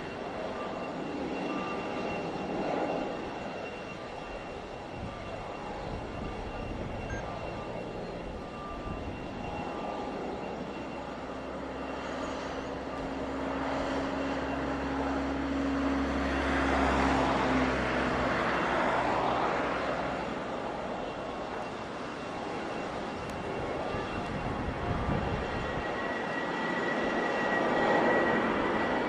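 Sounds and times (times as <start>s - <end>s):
jet engines passing by: 0.0s - 29.0s.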